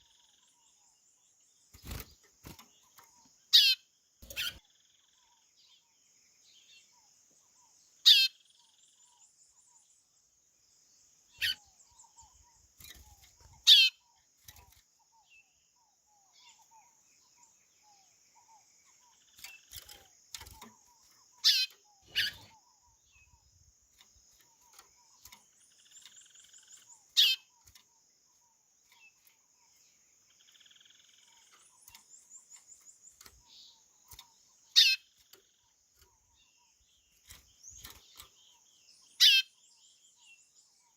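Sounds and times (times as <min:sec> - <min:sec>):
faint high chirping trills: 0:00.0 - 0:40.9.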